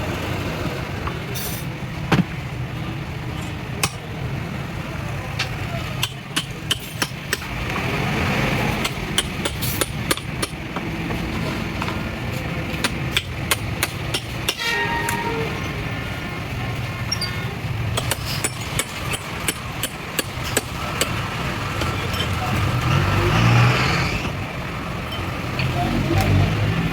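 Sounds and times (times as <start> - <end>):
traffic rumble: 0.0 - 26.9.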